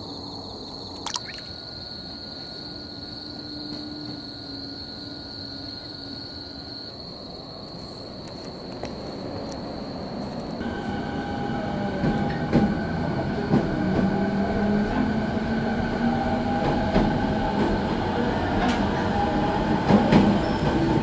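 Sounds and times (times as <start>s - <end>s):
train rumble: 2.1s - 6.2s, 7.6s - 21.0s.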